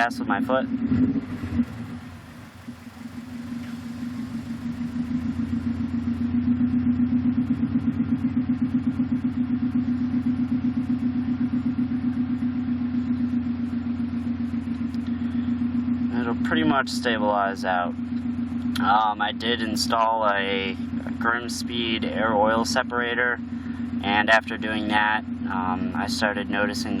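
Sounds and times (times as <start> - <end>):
car engine idling roughly: 0.0 - 27.0
engine throttle blip: 0.6 - 26.1.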